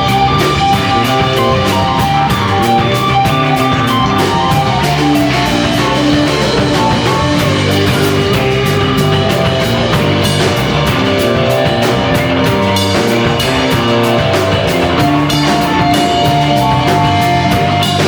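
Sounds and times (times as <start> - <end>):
drum kit beat: 0.0 - 18.0
held guitar notes: 0.0 - 18.0.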